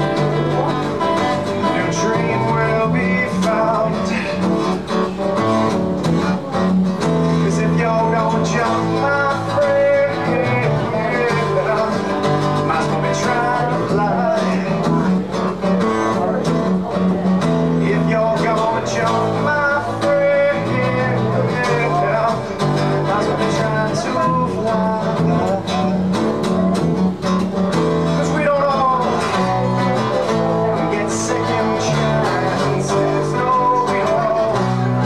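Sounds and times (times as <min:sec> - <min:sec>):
acoustic guitars playing country music: 0:00.0 - 0:35.0.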